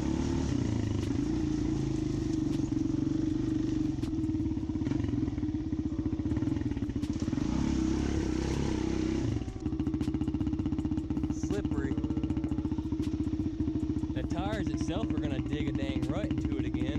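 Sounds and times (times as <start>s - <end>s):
small vehicle engine running: 0.0s - 16.9s.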